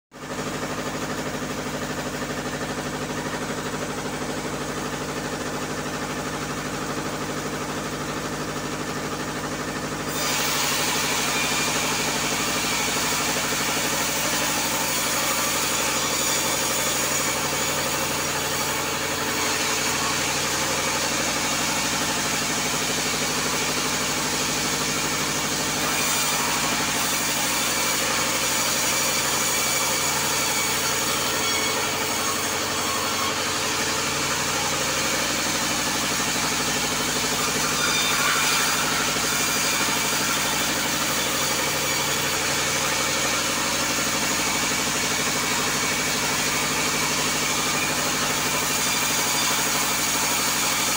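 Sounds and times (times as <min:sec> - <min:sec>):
bandsaw mill humming: 0:00.1 - 0:50.9
saw blade cutting wood: 0:00.2 - 0:50.9.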